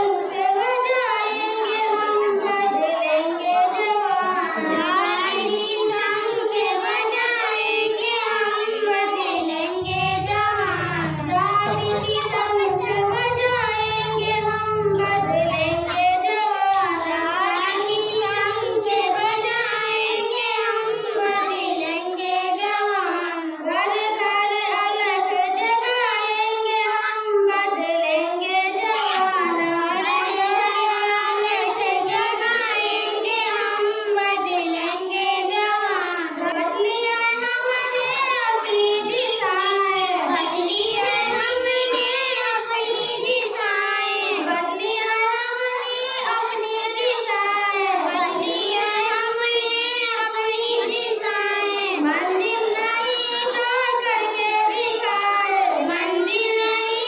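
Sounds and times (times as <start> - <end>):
girls singing into microphones: 0.0 - 57.0.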